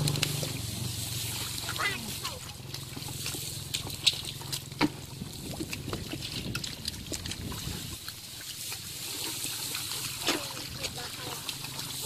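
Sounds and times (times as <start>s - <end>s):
mud splats: 0.0s - 12.0s
mud squelching and sloshing: 0.0s - 12.0s.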